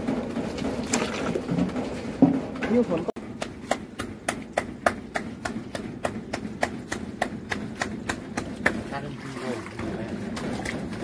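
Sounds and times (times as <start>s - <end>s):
rhythmic knocking on metal pot: 0.0s - 9.2s.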